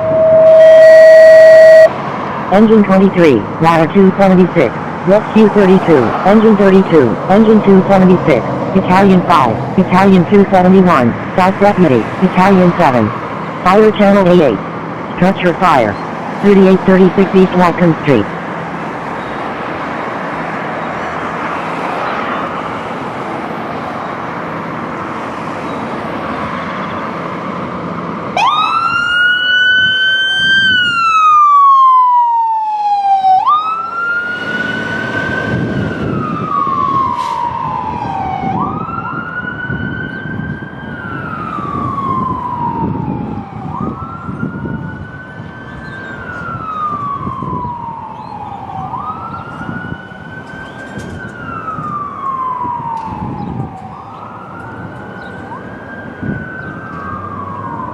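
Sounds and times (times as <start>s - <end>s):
fire engine siren wailing: 0.0s - 26.5s, 27.1s - 57.9s
vehicle noise: 0.0s - 57.9s.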